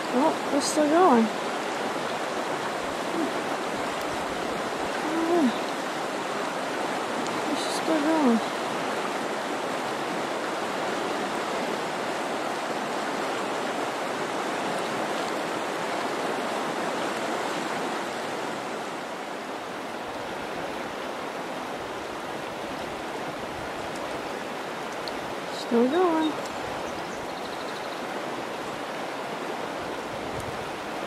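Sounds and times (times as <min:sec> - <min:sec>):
river flowing over rocks: 0:00.0 - 0:31.0.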